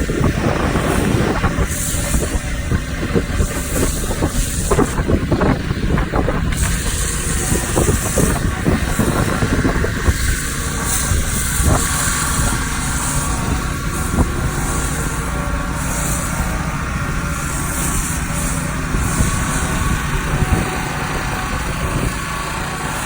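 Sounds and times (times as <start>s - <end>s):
foam spray hissing: 0.0s - 23.0s
pressure washer running: 0.0s - 23.0s.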